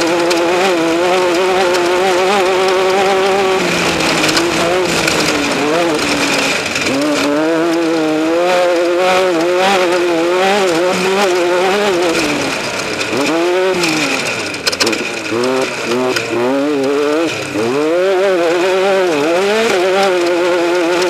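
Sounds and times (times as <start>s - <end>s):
race vehicle engine running hard: 0.0s - 21.0s
sharp clicks: 0.0s - 21.0s.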